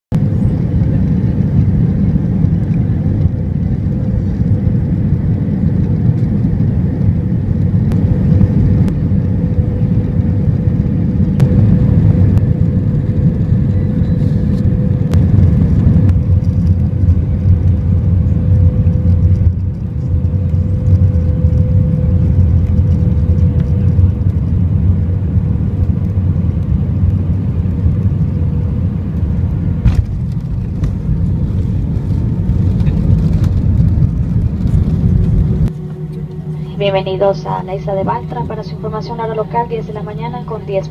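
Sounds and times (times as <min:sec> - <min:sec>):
jet engines and airflow rumble: 0:00.1 - 0:40.9
steady droning hum: 0:00.2 - 0:40.9.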